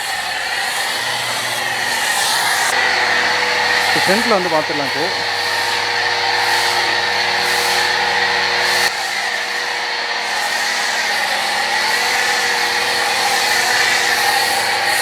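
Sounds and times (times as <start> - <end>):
pressure washer motor whining: 0.0 - 15.0.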